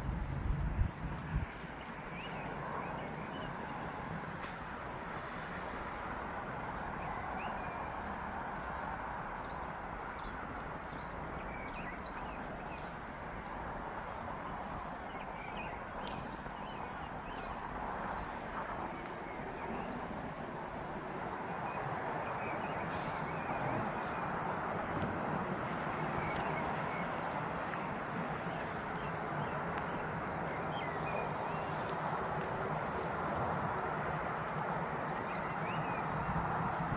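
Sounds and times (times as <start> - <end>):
steady background rush: 0.0 - 36.9
small birds chirping: 0.2 - 36.9.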